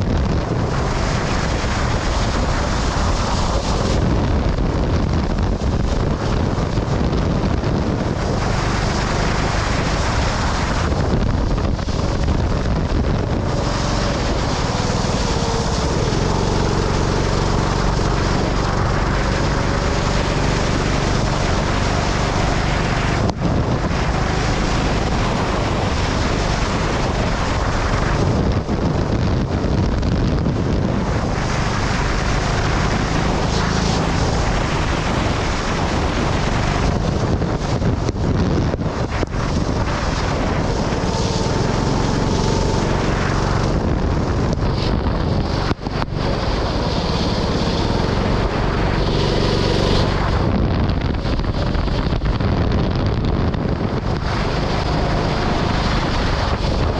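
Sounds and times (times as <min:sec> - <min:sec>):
go-kart engine running: 0:00.0 - 0:56.9
wind buffeting microphone: 0:00.0 - 0:56.9.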